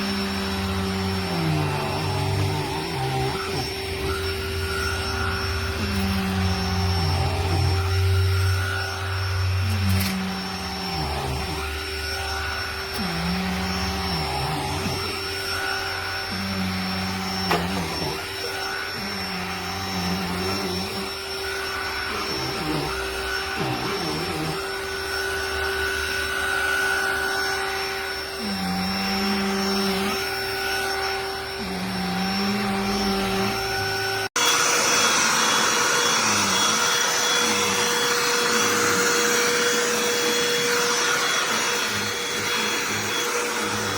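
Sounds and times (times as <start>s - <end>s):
handheld vacuum motor whine: 0.0s - 43.9s
louder vacuum: 0.0s - 43.9s.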